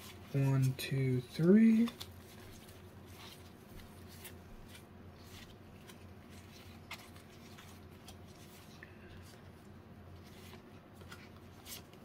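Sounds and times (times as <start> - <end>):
low room hum: 0.0 - 12.0
trading cards rustling: 0.0 - 12.0.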